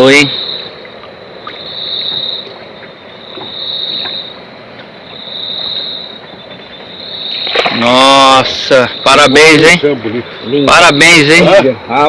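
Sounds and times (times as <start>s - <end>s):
insect chorus: 0.0s - 12.0s
steady background hiss: 0.0s - 12.0s.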